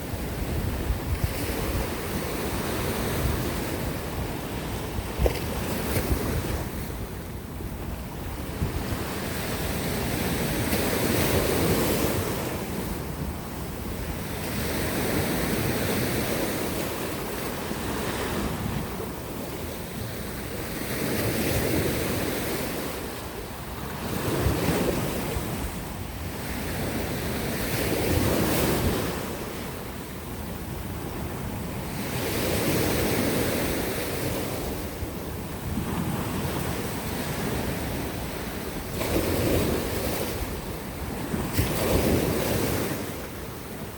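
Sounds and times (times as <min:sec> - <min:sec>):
waves breaking on shore: 0:00.0 - 0:43.9.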